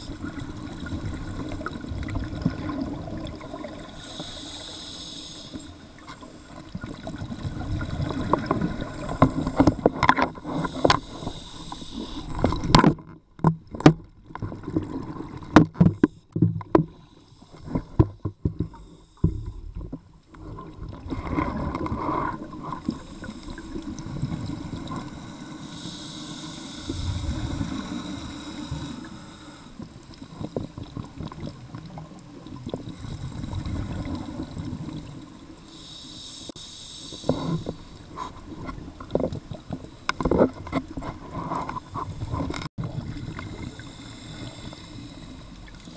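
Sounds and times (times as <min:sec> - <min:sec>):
underwater water rushing and bubbling: 0:00.0 - 0:45.9.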